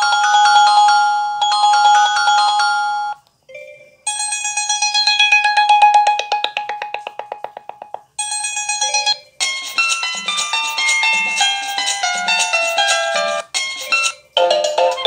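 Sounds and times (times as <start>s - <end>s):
bell-like ringtone trill: 0.0s - 15.0s
melodic phone ringtone: 0.0s - 15.0s.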